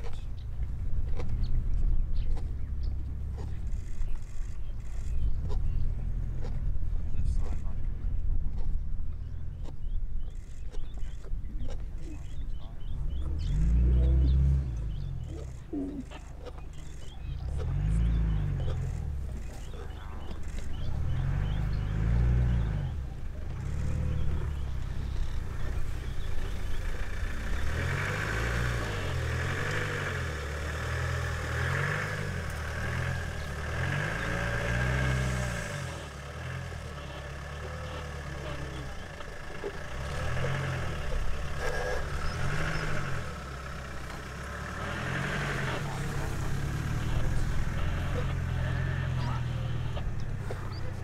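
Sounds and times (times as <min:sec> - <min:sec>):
lions growling low: 0:08.5 - 0:51.0.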